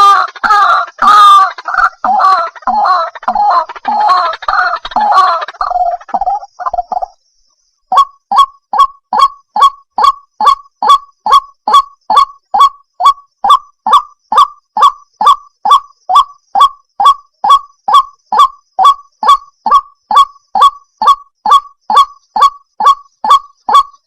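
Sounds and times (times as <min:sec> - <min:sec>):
waterhen calling: 0:00.0 - 0:07.2, 0:07.9 - 0:24.0.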